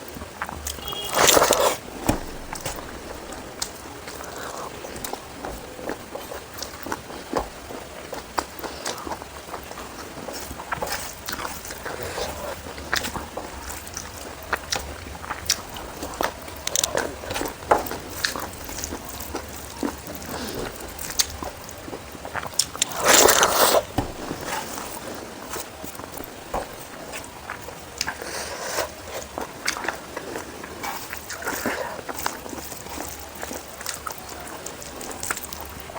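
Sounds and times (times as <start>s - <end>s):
chewing: 0.1s - 35.9s.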